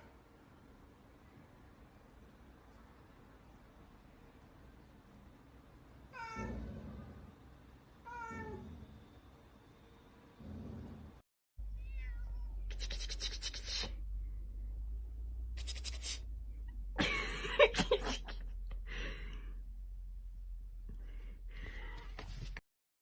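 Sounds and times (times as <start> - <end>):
low steady hum: 0.0 - 22.5.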